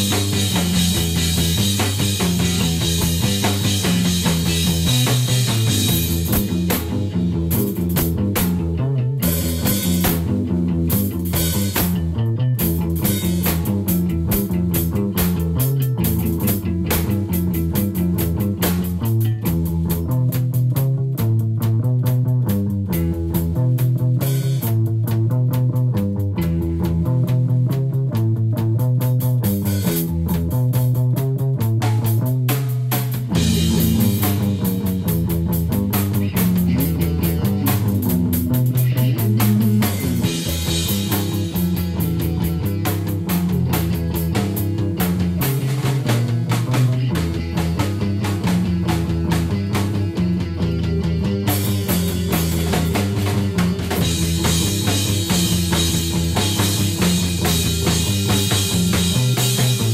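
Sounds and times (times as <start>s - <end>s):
psychedelic rock music: 0.0s - 59.9s.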